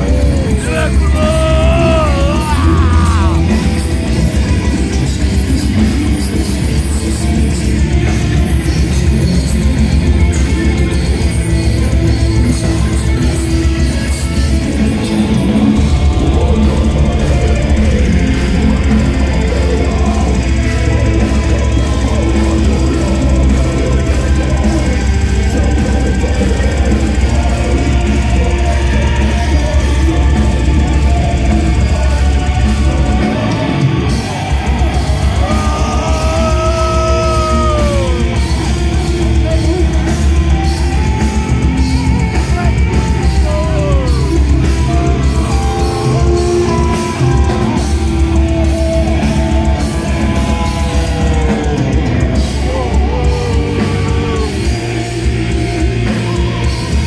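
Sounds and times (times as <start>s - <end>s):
distorted guitars: 0.0s - 57.0s
heavy drums: 0.0s - 57.0s.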